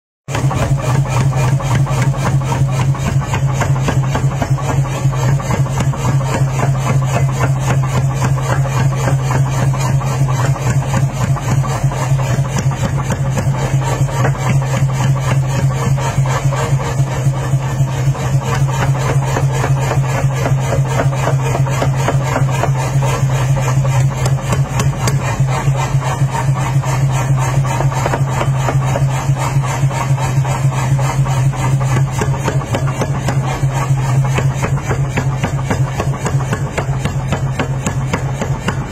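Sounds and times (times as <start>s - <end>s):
machine motor hum: 0.3s - 38.9s
power hammer pounding steel: 0.3s - 38.9s.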